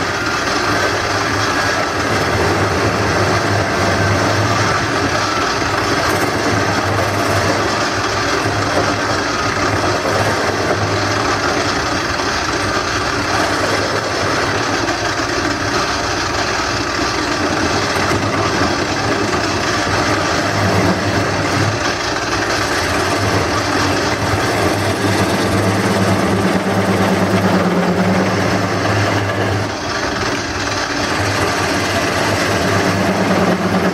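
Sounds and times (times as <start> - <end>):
gouge cutting spinning wood: 0.0 - 33.9
higher hum: 0.0 - 33.9
lathe motor hum: 0.0 - 33.9.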